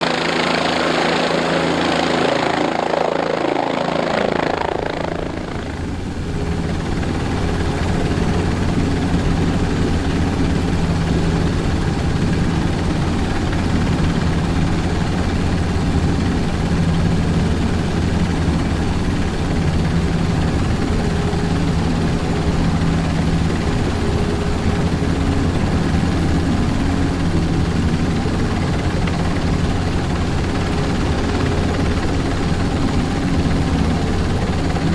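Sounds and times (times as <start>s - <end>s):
large engine humming: 0.0s - 34.9s.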